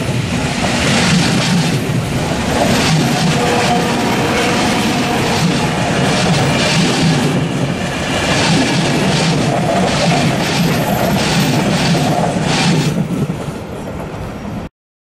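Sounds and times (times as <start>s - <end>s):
wheels clacking over rail joints: 0.0s - 14.2s
train rolling rumble: 0.0s - 14.7s.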